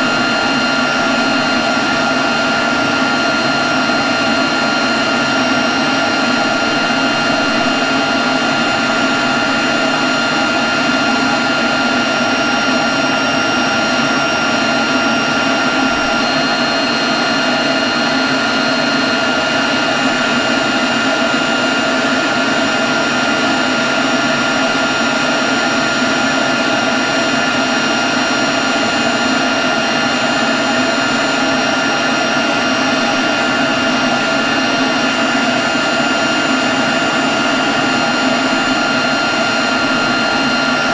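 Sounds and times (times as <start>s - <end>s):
leaf blower running: 0.0s - 40.9s.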